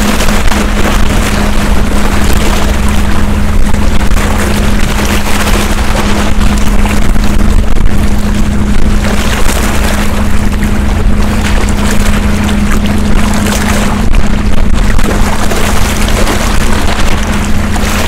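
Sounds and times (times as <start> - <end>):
steady low hum: 0.0 - 18.0
waves splashing against rocks: 0.0 - 18.0
wind rumbling on microphone: 0.0 - 18.0.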